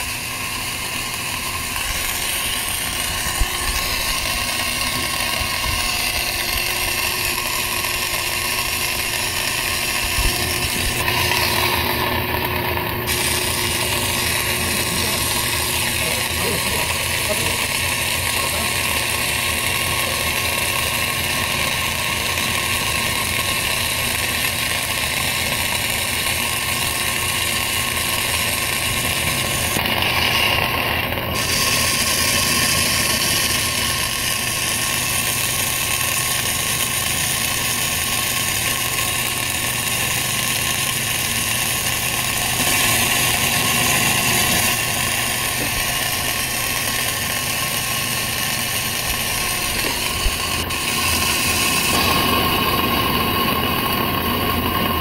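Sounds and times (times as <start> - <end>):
welding arc crackling and hissing: 0.0 - 55.0.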